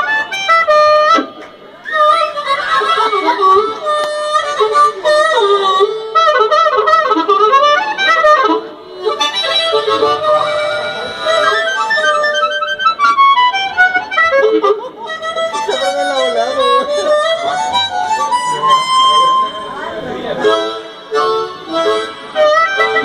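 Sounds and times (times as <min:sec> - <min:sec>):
blues harmonicas playing: 0:00.0 - 0:23.0.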